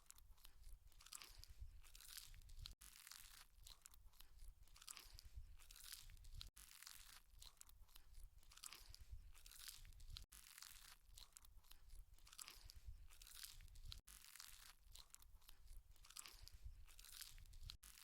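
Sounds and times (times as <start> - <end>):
wet crunchy chewing: 0.0 - 18.0.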